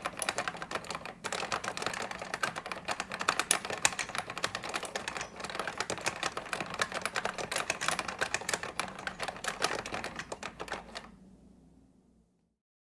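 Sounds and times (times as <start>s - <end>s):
fast typing keystroke clacks: 0.0s - 11.1s.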